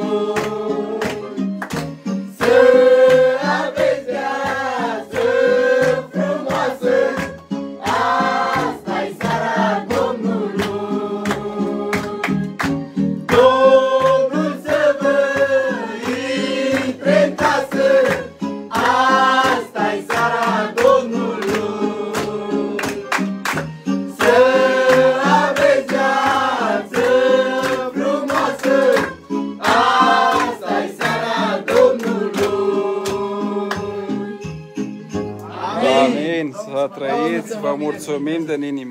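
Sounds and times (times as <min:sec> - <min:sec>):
instrumental accompaniment with beat: 0:00.0 - 0:35.9
group singing a carol: 0:00.0 - 0:37.8.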